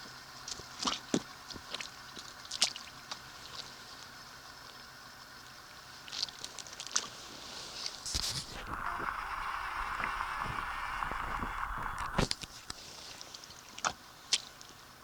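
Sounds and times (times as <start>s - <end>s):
faint steady hum: 0.0s - 15.0s
water sloshing and splashing: 0.4s - 4.1s, 6.0s - 14.7s.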